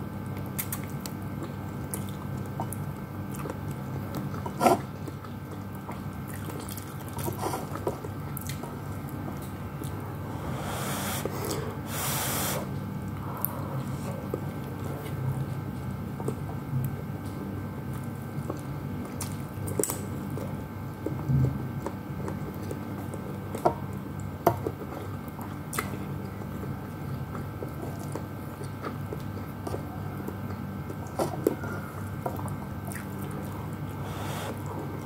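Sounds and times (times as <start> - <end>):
steady low hum: 0.0 - 35.0
person chewing food: 0.3 - 35.0.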